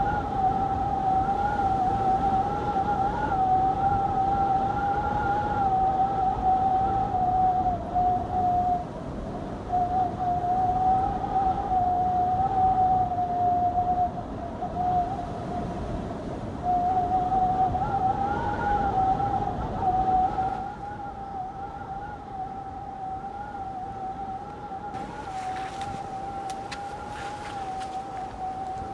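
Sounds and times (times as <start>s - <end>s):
wind howling in high whistle: 0.0s - 28.9s.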